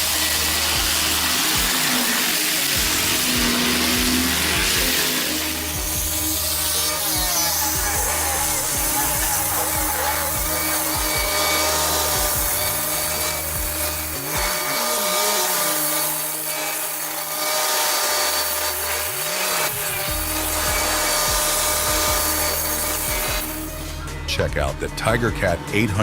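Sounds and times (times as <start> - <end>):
music with deep bass: 0.0 - 16.6, 18.0 - 26.0
forestry machine working wood: 0.0 - 26.0.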